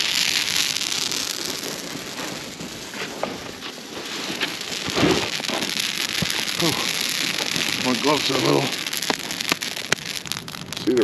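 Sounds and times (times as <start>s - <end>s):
campfire crackling and hissing: 0.0s - 11.0s
sharp fire pops: 0.0s - 11.0s.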